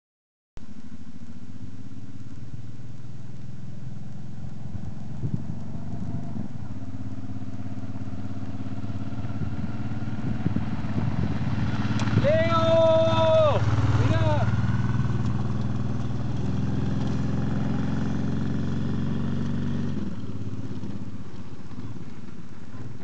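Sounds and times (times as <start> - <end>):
motorcycle engine hum: 0.6 - 23.0.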